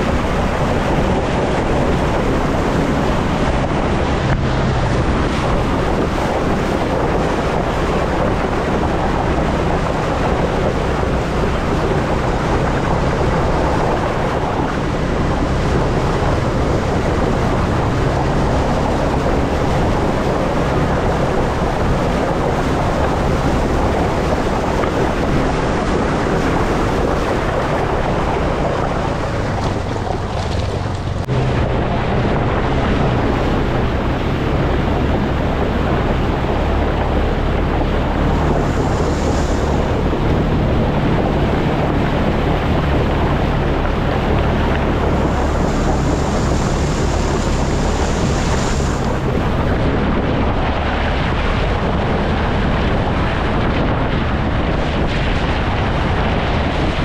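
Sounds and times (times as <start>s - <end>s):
atv engine running: 0.0s - 57.0s
wind noise on microphone: 0.0s - 57.0s.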